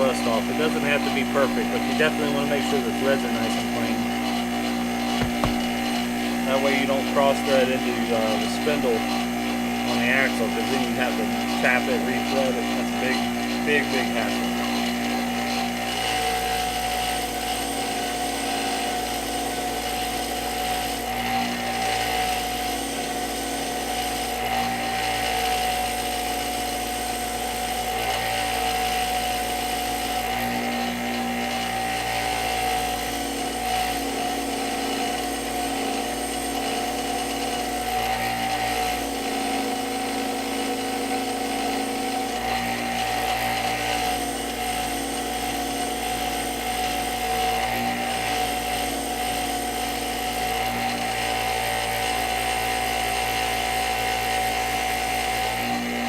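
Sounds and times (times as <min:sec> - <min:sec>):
electric power tool whining: 0:00.0 - 0:56.0.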